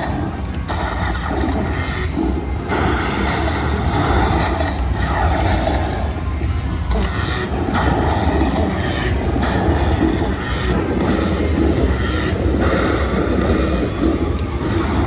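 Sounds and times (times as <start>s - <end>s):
slot machine win sounds: 0.0s - 15.0s.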